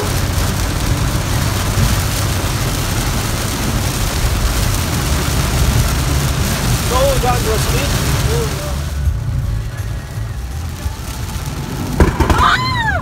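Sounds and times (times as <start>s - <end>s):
heavy rain on a car: 0.0s - 13.0s
low engine and tyre rumble: 0.0s - 13.0s.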